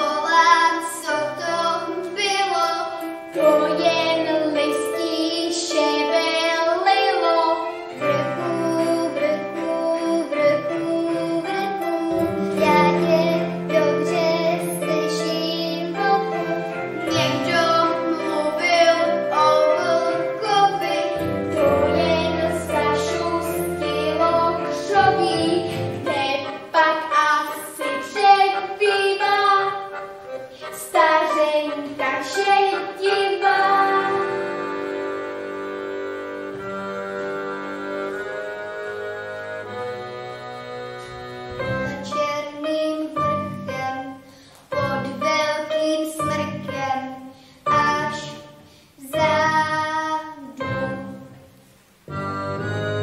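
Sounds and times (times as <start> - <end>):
child singing: 0.0 - 30.0, 30.7 - 34.5, 41.8 - 51.3
instrumental accompaniment: 0.0 - 53.0.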